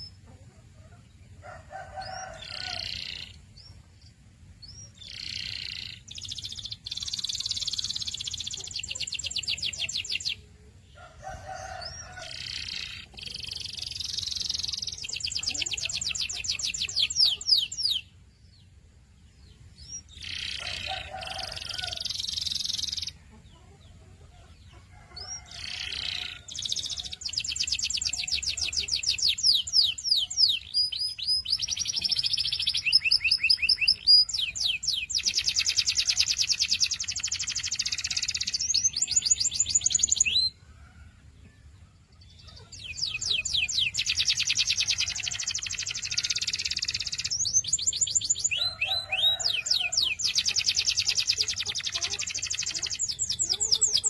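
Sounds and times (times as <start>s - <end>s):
canary singing: 1.5s - 3.8s, 4.5s - 18.2s, 19.5s - 40.6s, 42.2s - 54.0s.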